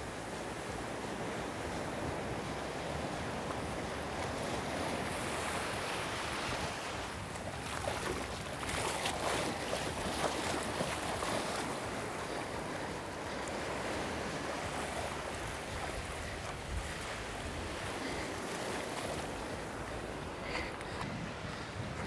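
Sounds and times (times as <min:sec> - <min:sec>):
surf washing over shallows: 0:00.0 - 0:22.0
wind buffeting the microphone: 0:00.1 - 0:22.0.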